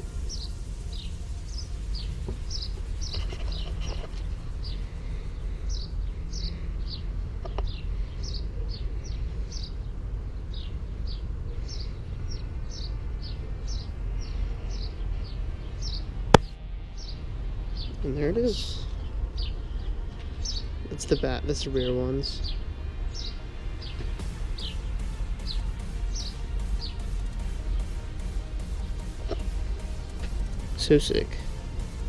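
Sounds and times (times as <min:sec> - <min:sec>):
bird chirping: 0:00.0 - 0:32.0
steady low rumble: 0:00.0 - 0:32.0.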